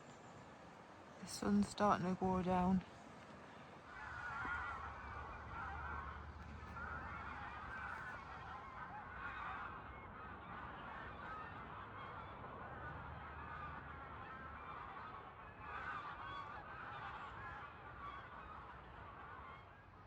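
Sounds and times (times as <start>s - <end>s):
geese honking: 3.9s - 20.0s.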